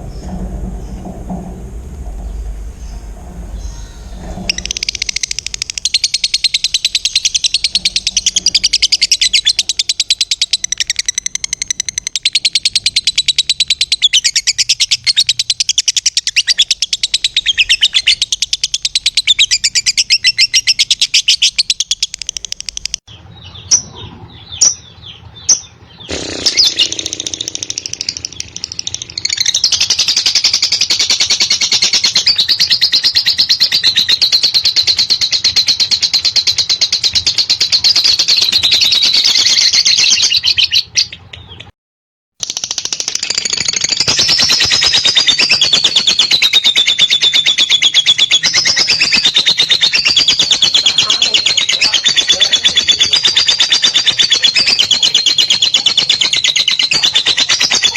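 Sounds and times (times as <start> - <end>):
lovebird chirps: 0.0 - 41.7, 42.4 - 57.9
lovebird shrill chattering song: 2.0 - 41.7, 42.4 - 57.9.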